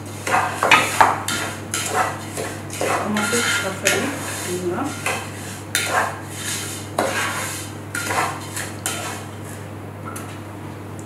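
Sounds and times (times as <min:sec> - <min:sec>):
utensils clattering against bowls: 0:00.0 - 0:10.3.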